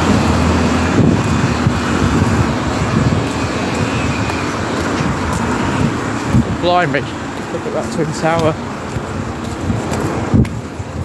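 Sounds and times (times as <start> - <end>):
passing vehicles rushing: 0.0 - 11.0.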